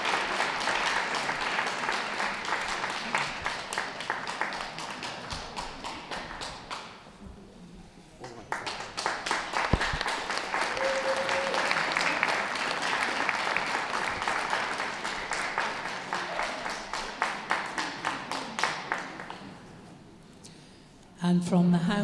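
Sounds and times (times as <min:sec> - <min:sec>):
audience clapping: 0:00.0 - 0:07.2, 0:08.2 - 0:19.9.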